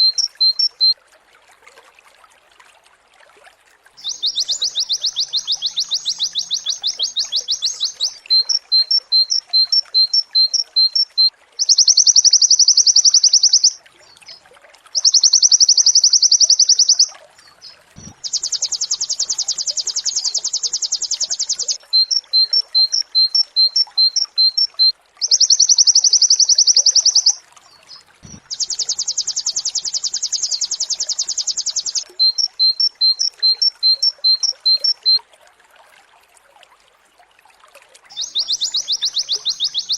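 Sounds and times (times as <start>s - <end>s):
bird singing high trills: 0.0s - 0.9s, 4.0s - 13.8s, 15.0s - 35.2s, 38.1s - 39.9s.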